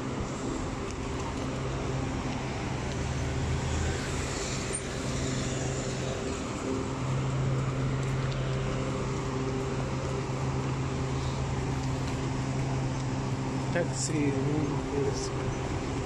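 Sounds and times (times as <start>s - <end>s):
road traffic rushing: 0.0s - 16.0s.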